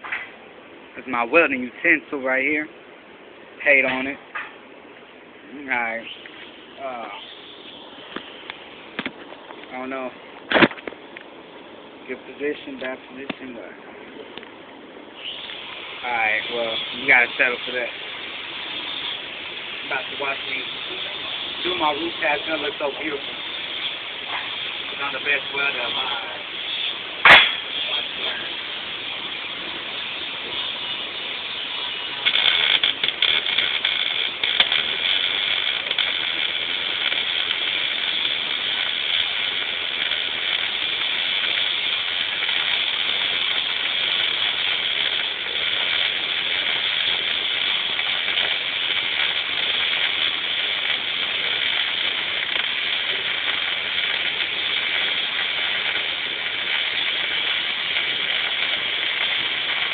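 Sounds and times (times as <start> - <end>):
welding arc hissing: 3.6 - 4.6, 5.4 - 59.9.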